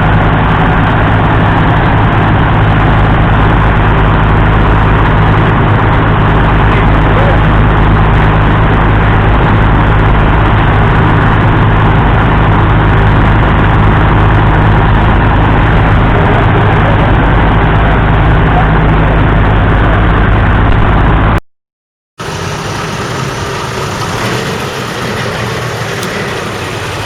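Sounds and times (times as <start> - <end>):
diesel truck engine idling: 0.0 - 21.4, 22.2 - 27.0.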